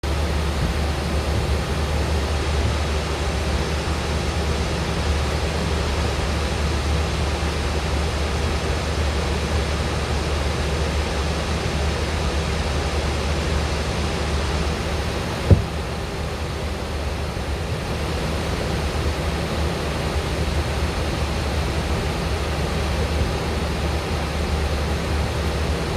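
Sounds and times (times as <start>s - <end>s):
aircraft cabin engine rush: 0.0s - 25.9s.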